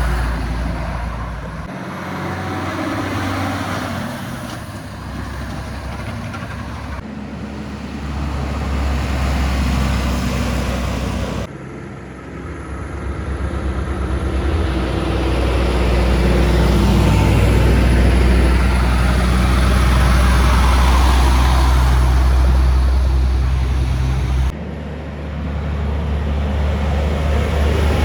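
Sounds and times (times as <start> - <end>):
highway traffic passing: 0.0 - 28.0.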